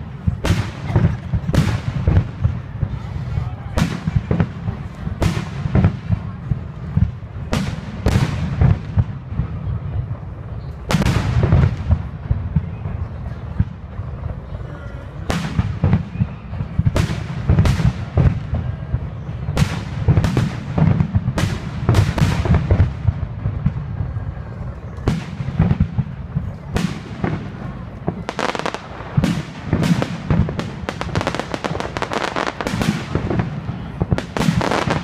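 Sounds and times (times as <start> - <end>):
fireworks bursting: 0.0 - 14.6, 15.2 - 35.0.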